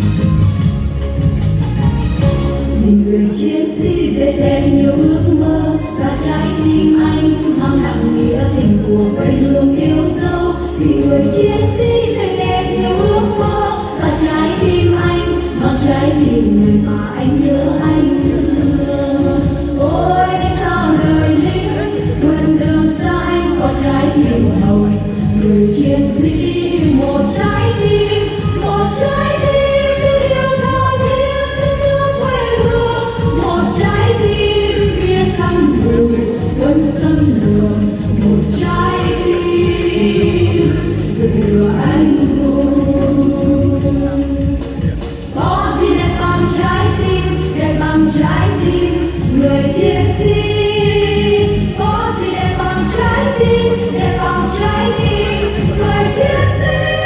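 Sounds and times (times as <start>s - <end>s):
instrumental accompaniment: 0.0s - 57.0s
person singing: 2.8s - 57.0s.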